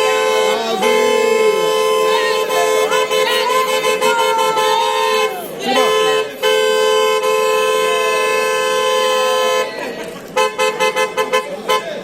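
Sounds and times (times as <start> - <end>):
two-tone car horn: 0.0 - 12.0.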